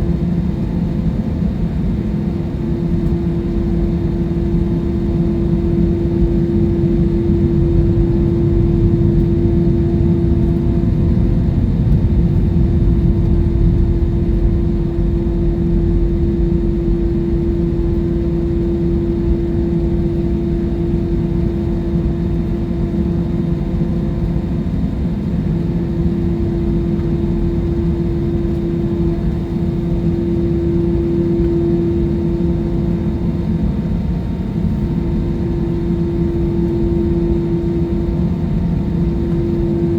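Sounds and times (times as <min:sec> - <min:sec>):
constant droning tone: 0:00.0 - 0:39.9
jet engine rumble: 0:00.0 - 0:39.9.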